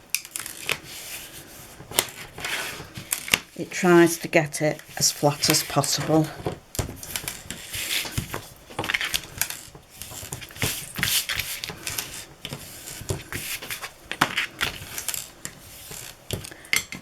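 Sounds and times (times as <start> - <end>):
bone folder scraping paper: 0.3 - 16.6.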